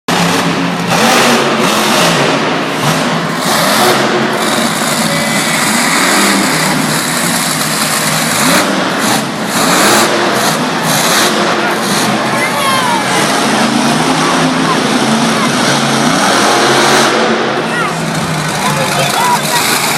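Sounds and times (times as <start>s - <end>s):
truck engine revving hard: 0.1s - 19.9s.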